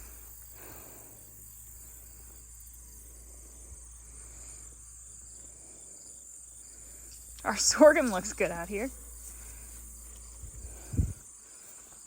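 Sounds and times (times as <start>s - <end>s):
crickets chirring: 0.0s - 12.0s
low steady hum: 0.0s - 12.0s.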